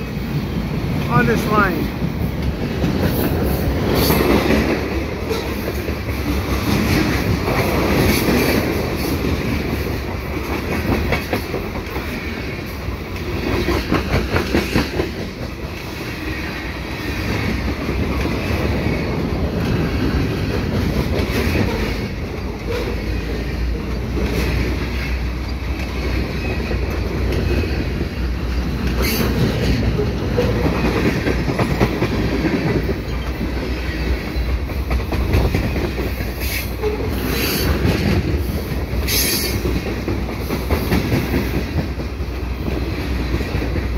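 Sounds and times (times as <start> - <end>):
freight train rumble: 0.0 - 43.9
wheels clacking over rail joints: 0.0 - 43.9.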